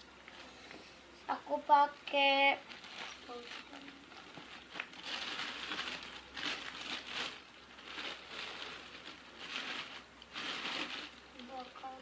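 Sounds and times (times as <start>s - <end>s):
plastic crinkling: 2.0s - 12.0s.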